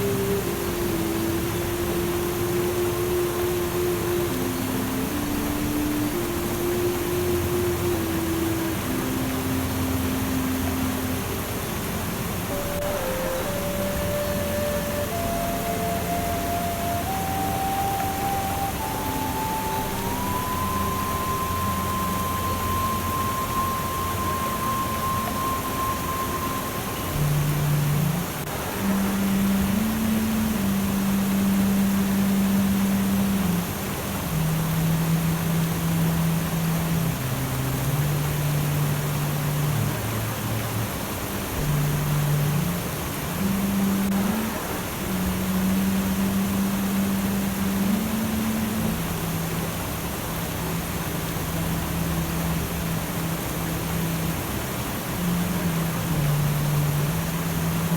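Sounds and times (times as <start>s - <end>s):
hiss-like ambient noise: 0.0s - 57.9s
rushing water noise: 0.0s - 57.9s.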